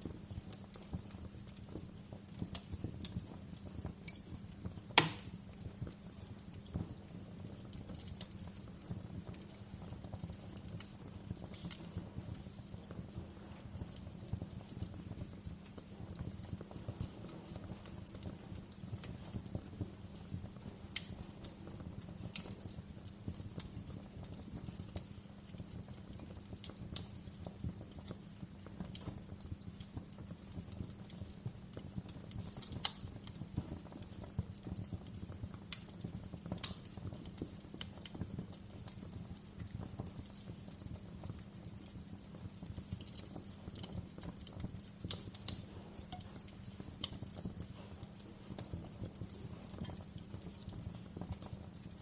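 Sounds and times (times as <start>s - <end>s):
sharp fire pops: 0.0s - 52.0s
wood fire crackling: 0.0s - 52.0s.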